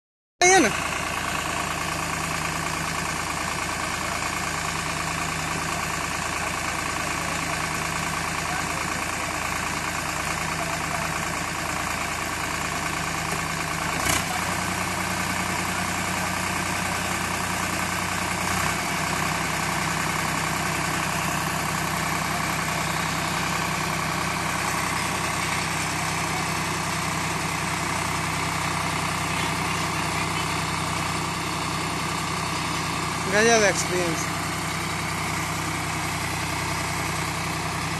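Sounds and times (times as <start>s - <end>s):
tractor diesel engine running: 0.4s - 37.9s.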